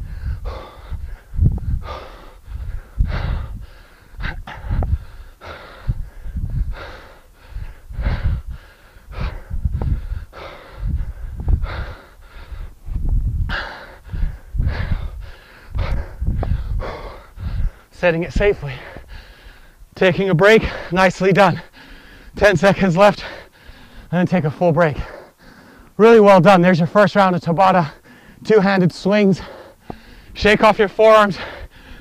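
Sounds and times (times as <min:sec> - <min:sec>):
man breathing hard: 0:00.0 - 0:19.9, 0:20.6 - 0:21.0, 0:21.6 - 0:22.4, 0:23.1 - 0:24.2, 0:24.9 - 0:26.0, 0:27.8 - 0:28.4, 0:29.4 - 0:30.4, 0:31.2 - 0:32.0.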